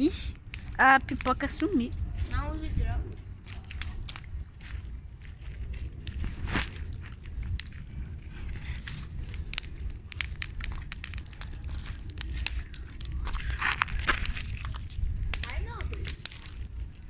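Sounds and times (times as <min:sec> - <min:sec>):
bonfire crackling and popping: 0:00.0 - 0:17.0.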